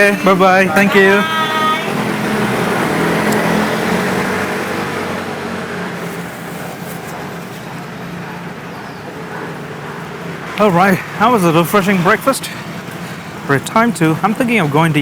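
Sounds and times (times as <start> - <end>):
motor vehicle running close: 0.0 - 15.0
traffic rumble: 0.0 - 15.0.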